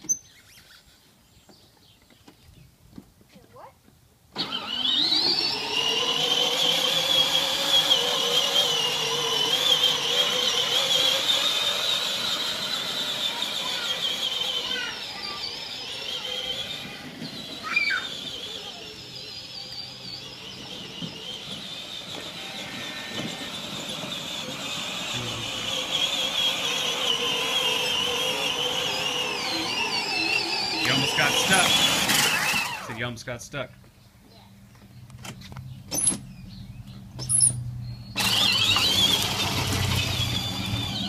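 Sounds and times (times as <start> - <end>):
ride-on toy motor whine: 4.4 - 33.2, 35.5 - 36.2, 37.2 - 41.0.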